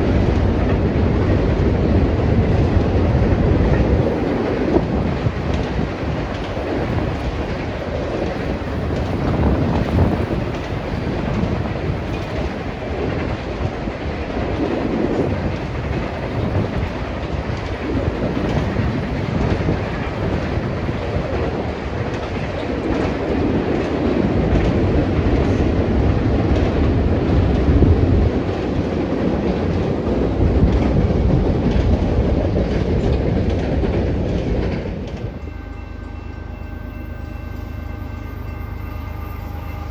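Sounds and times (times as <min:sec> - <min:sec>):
freight train rumbling past: 0:00.0 - 0:39.9
steel wheels clattering on rails: 0:00.0 - 0:39.9.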